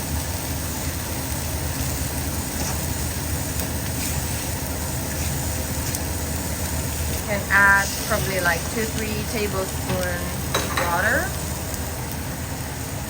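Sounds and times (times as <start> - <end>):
food frying in a wok: 0.0 - 13.0
steady low hum: 0.0 - 13.0.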